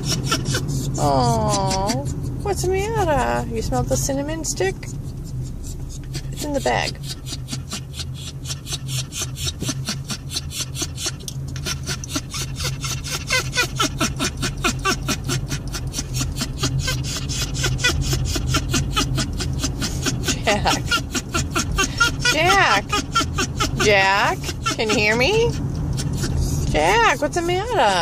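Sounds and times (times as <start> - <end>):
dog panting: 0.0 - 28.0
dog whining: 0.0 - 28.0
low car hum: 0.0 - 28.0.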